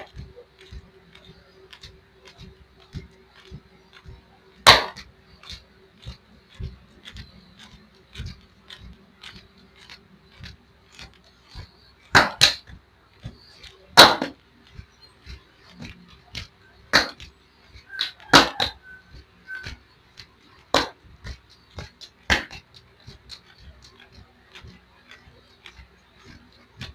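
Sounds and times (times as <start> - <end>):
hands slapping and patting legs: 0.0 - 26.9.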